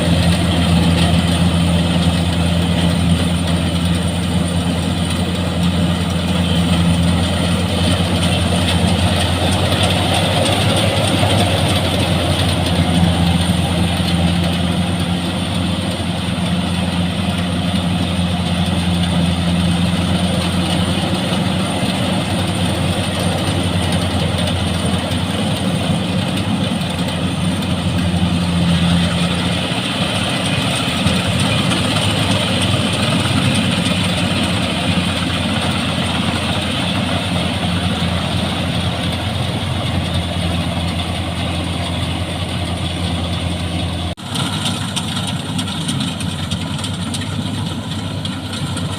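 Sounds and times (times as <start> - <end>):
combine harvester engine hum: 0.0 - 48.9
rushing mechanical noise: 0.0 - 48.9.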